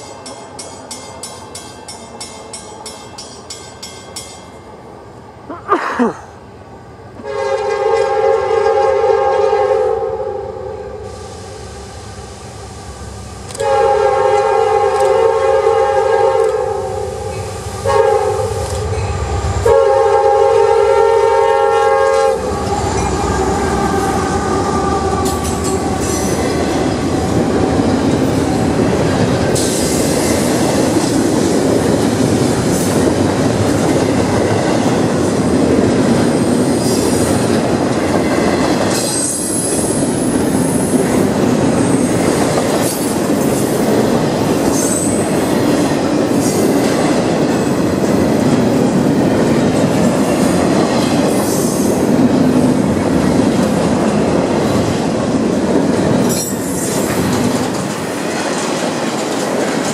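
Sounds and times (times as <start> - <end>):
train wheels rumbling on rails: 0.0 - 5.4, 6.4 - 59.9.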